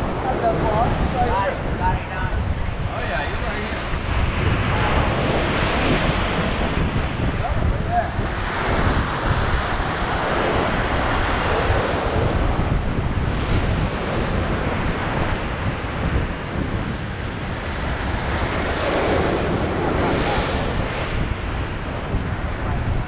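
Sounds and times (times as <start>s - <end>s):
ocean surf churning: 0.0s - 23.0s
wind rumble on microphone: 0.0s - 23.0s.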